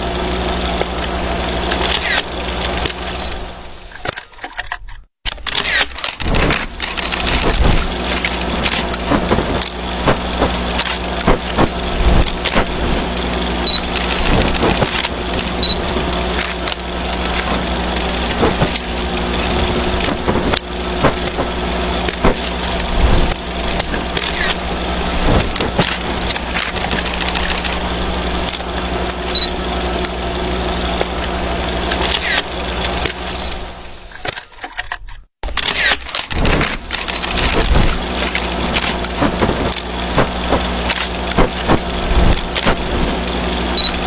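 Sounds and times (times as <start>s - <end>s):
film projector running hum: 0.0s - 4.3s, 5.3s - 34.4s, 35.5s - 44.0s
crackles and clicks: 0.6s - 30.2s, 30.8s - 44.0s.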